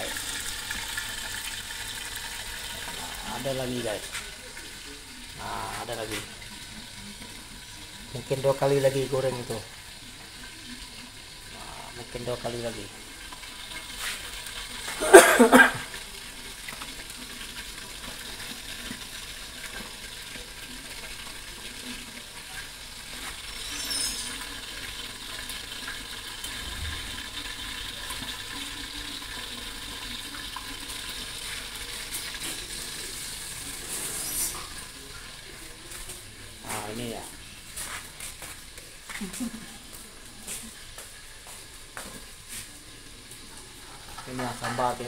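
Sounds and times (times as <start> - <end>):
fish sizzling in hot oil: 0.0 - 45.0.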